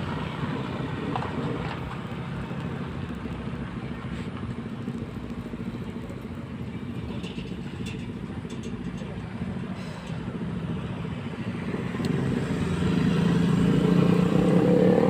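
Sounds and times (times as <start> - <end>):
truck engine running: 0.0 - 14.3
road noise: 0.0 - 15.0.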